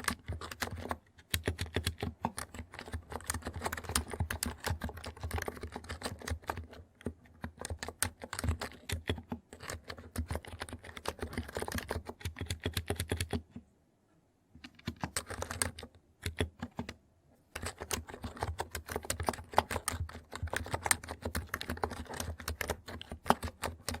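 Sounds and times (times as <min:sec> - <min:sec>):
keyboard typing: 0:00.0 - 0:13.6, 0:14.6 - 0:24.0.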